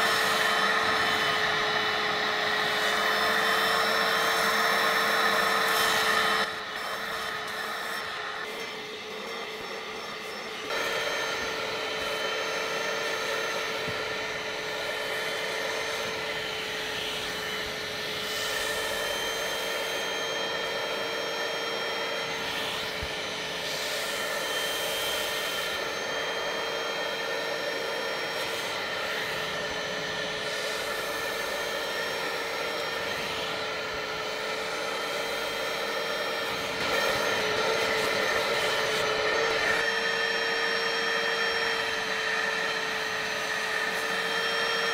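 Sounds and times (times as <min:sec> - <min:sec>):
vacuum cleaner motor whine: 0:00.0 - 0:44.9.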